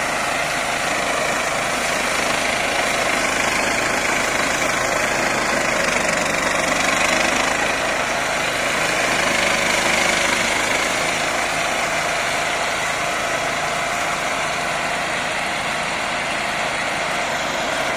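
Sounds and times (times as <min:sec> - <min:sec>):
mulcher chopping grass: 0:00.0 - 0:17.9
mulcher petrol engine: 0:00.0 - 0:17.9
tractor engine running: 0:00.0 - 0:17.9.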